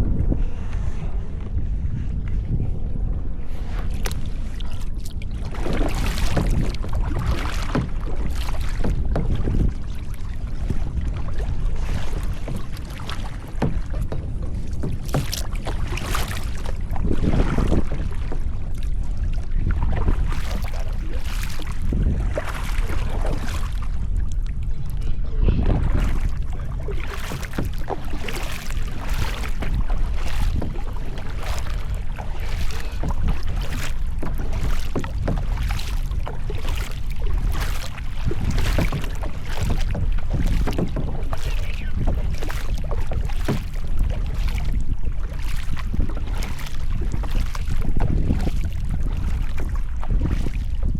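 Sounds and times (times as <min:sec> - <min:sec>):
wind on microphone: 0:00.0 - 0:50.9
paddle splashing in water: 0:01.9 - 0:50.9.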